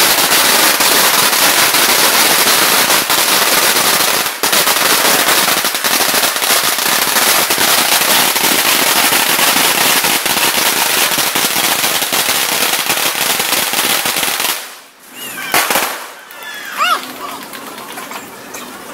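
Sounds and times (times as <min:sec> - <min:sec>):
firecrackers crackling: 0:00.0 - 0:18.9.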